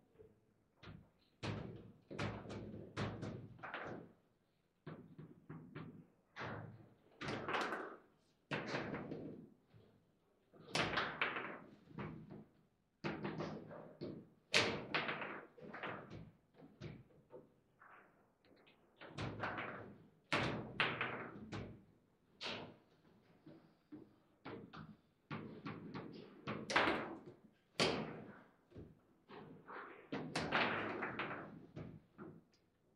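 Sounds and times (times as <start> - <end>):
table football knocks and clacks: 0.8 - 4.2, 4.8 - 9.5, 10.6 - 32.6.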